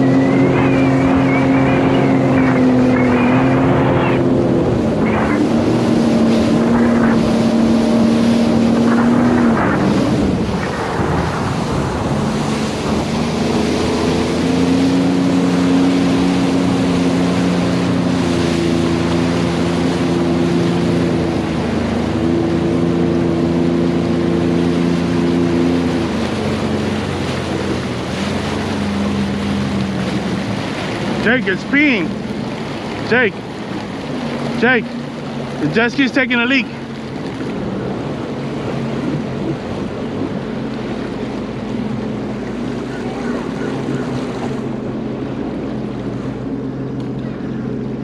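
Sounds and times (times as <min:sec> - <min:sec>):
wind on microphone: 0:00.0 - 0:31.3, 0:36.8 - 0:48.0
personal watercraft engine: 0:00.0 - 0:48.0.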